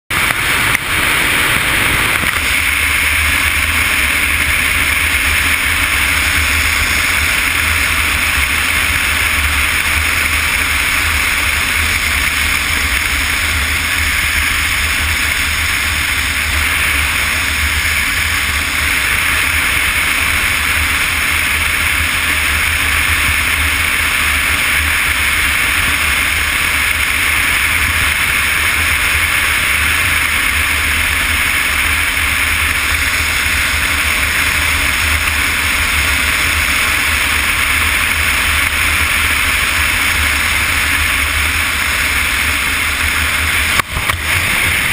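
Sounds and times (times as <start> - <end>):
motorcycle engine rumble: 0.1 - 44.9
rushing wind and road noise: 0.1 - 44.9.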